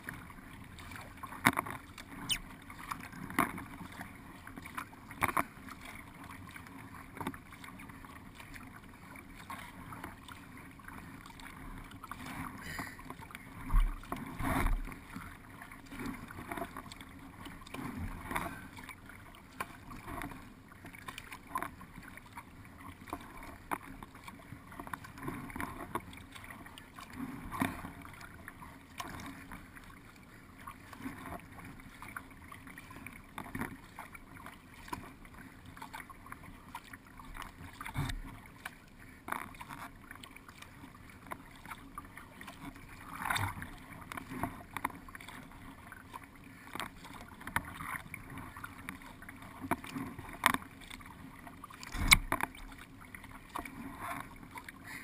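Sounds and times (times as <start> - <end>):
paddle strokes splashing: 0.0 - 55.0
water washing along boat hull: 0.0 - 55.0.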